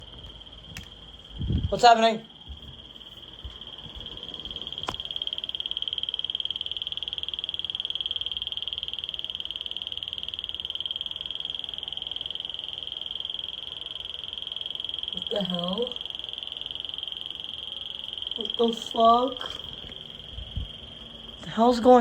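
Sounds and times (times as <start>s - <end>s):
smoke alarm fluttering tone: 0.0s - 22.0s.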